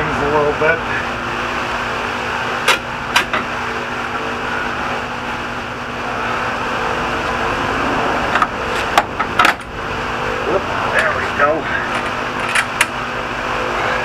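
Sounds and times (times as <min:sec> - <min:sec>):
shop fan whirring: 0:00.0 - 0:14.0.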